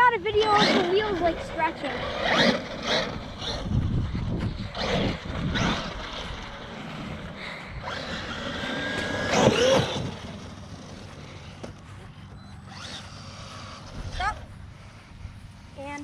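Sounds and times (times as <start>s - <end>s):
rc car motor revving: 0.0s - 15.0s.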